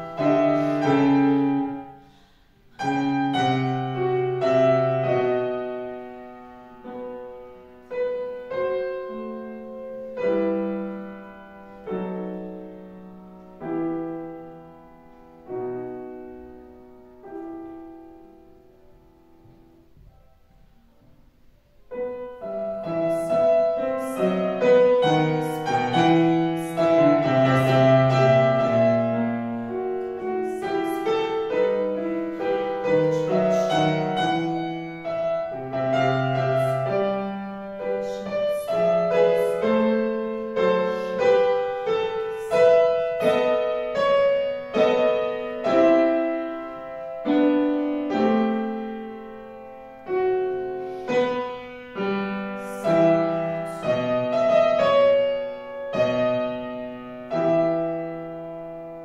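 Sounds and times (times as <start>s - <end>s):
grand piano playing: 0.0s - 59.0s.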